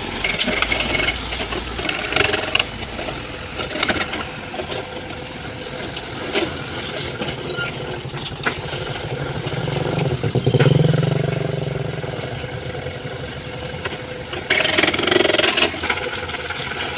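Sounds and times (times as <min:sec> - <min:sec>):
heavy diesel engine working: 0:00.0 - 0:16.9.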